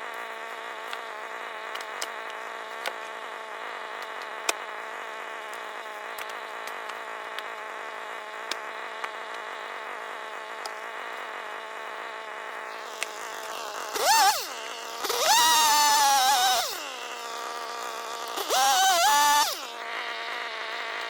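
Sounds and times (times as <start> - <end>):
motor buzzing drone: 0.0 - 21.0.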